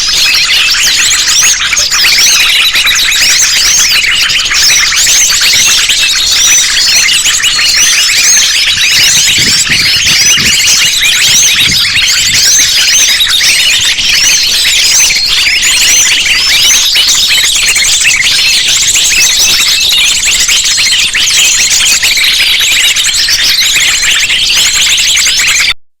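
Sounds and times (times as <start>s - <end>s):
small birds chirping and trilling: 0.0s - 25.7s.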